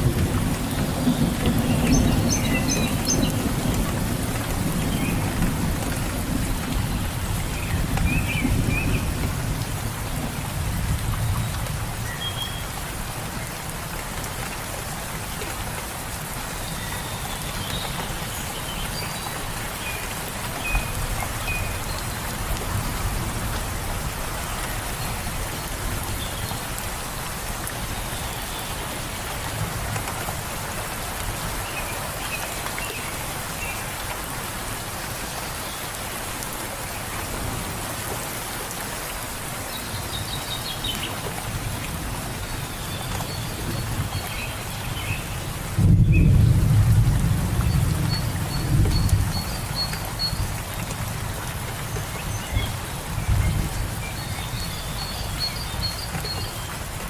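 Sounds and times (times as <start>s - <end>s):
steady rain in a forest: 0.0s - 57.0s.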